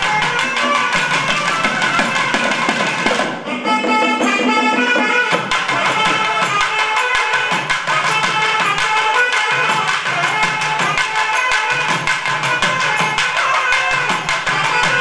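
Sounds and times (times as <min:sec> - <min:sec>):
fast hand-drum beats: 0:00.0 - 0:15.0.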